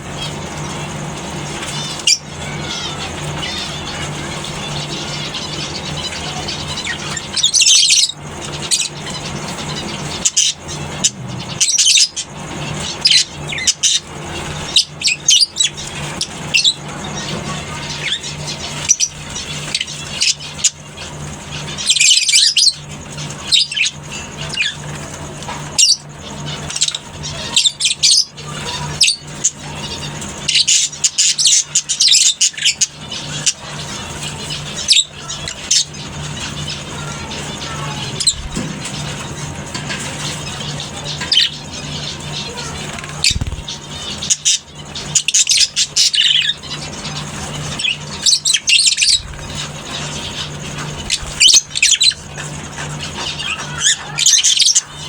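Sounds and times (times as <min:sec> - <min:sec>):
loud high-pitched bird calls: 0:00.0 - 0:55.0
lovebirds chattering: 0:00.0 - 0:55.0
steady low hum: 0:00.0 - 0:55.0.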